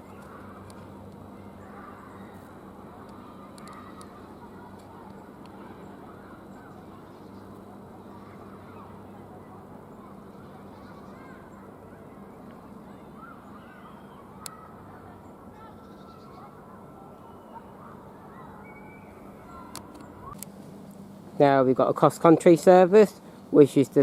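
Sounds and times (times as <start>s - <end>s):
faint bird calls: 0.0s - 21.4s
low background hum: 0.0s - 24.0s.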